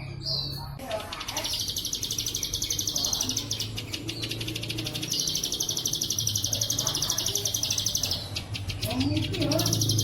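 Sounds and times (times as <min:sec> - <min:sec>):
bird singing high-pitched trill: 0:00.0 - 0:10.0.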